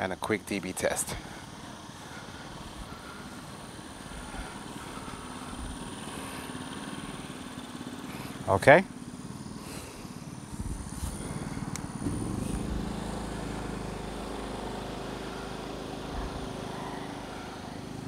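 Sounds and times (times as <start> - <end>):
generator engine running: 0.0 - 18.0.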